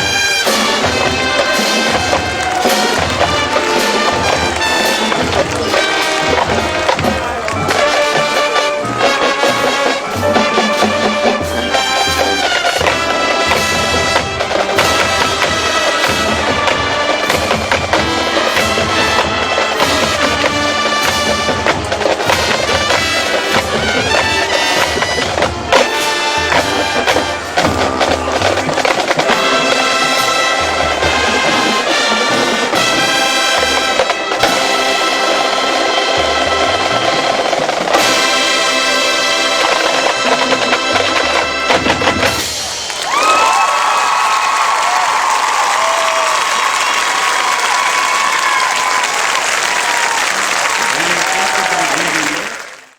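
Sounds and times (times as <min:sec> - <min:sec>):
brass and woodwinds chords: 0:00.0 - 0:42.8
drumline percussion: 0:00.0 - 0:52.9.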